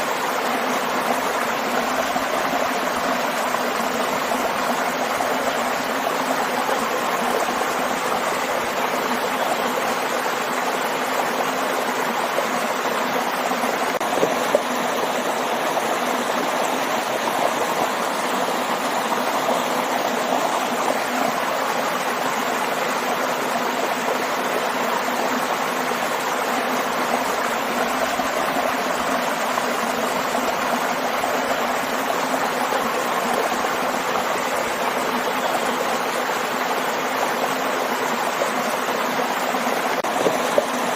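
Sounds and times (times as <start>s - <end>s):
water rushing over waterfall: 0.0s - 40.9s.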